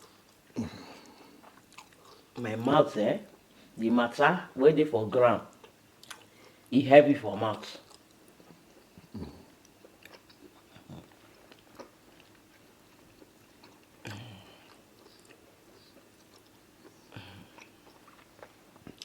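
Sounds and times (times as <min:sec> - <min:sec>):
people chewing with wet mouth sounds: 0:00.0 - 0:04.2, 0:05.5 - 0:06.7, 0:07.5 - 0:19.0.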